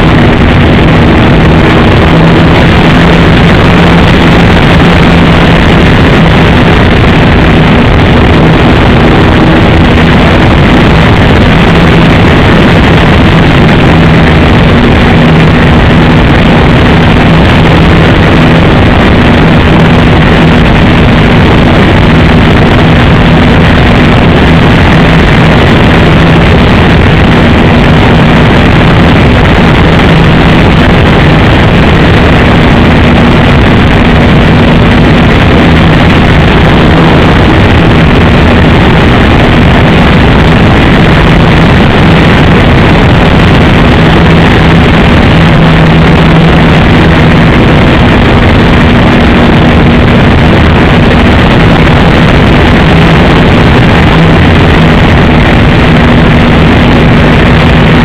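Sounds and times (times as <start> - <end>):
model airplane engine buzzing: 0.0 - 58.0.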